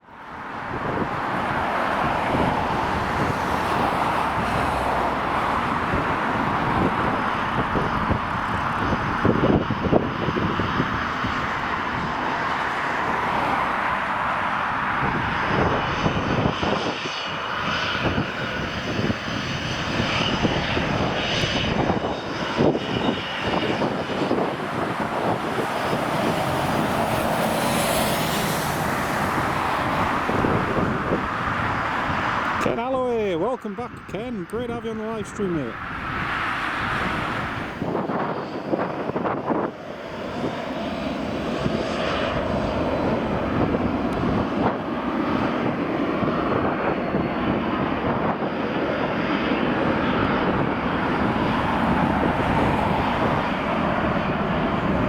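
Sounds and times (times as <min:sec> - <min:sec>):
jet engines roaring with whine: 0:00.0 - 0:55.0.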